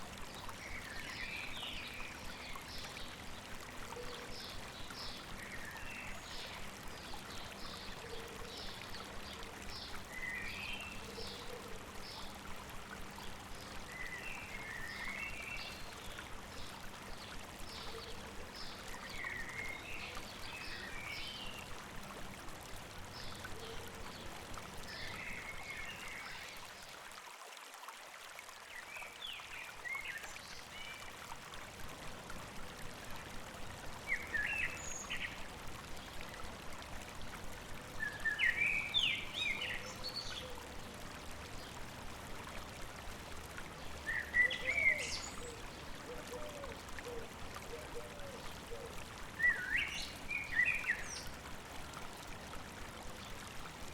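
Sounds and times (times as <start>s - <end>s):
stream running: 0.0s - 53.9s.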